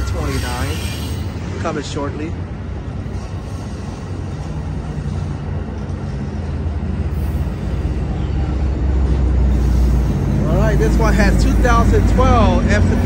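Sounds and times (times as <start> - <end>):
diesel locomotive drone: 0.0 - 13.0
passenger train cars rolling past: 0.0 - 13.0.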